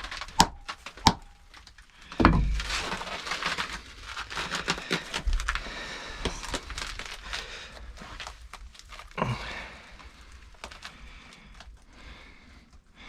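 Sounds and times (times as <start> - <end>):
clicks and crackles: 0.0 - 12.9.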